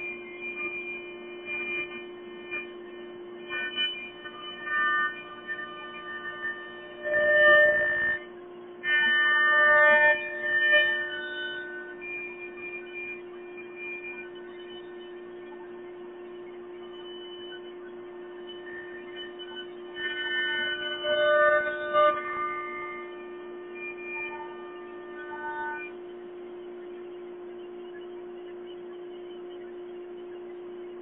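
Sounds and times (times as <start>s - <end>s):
cnc router humming: 0.0s - 31.0s.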